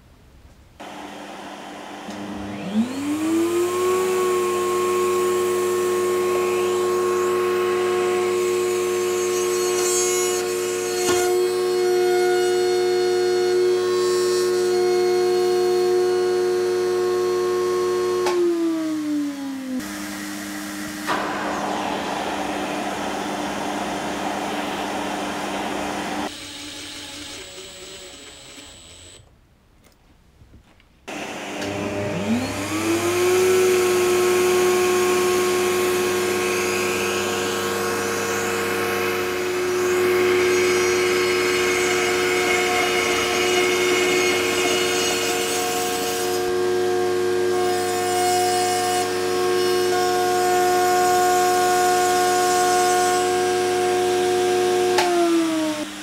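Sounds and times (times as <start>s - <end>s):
router motor whining: 0.8s - 29.2s, 31.1s - 56.0s.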